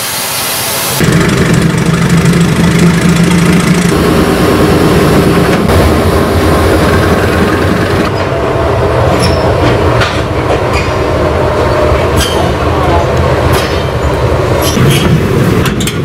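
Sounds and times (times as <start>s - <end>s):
train engine and wheels rumbling: 0.0s - 16.0s.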